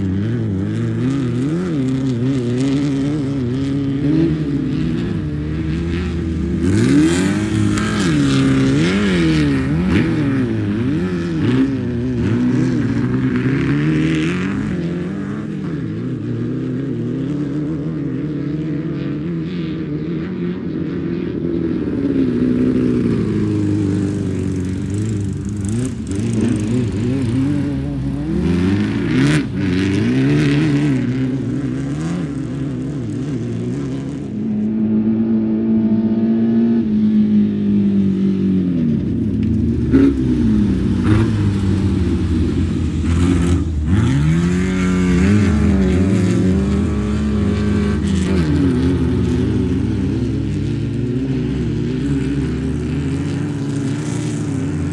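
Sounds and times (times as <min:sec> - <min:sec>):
race car engine revving: 0:00.0 - 0:18.6, 0:21.1 - 0:34.4, 0:38.3 - 0:54.9.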